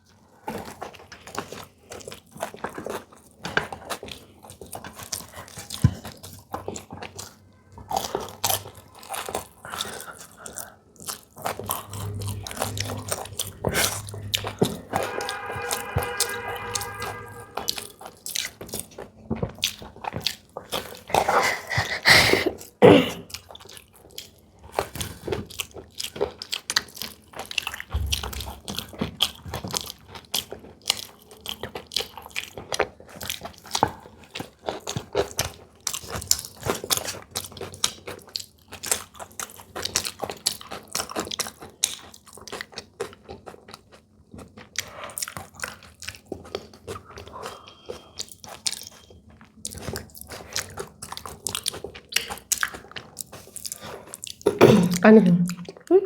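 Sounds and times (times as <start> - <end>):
crunchy biting and chewing: 0.5 - 16.2, 23.3 - 54.4.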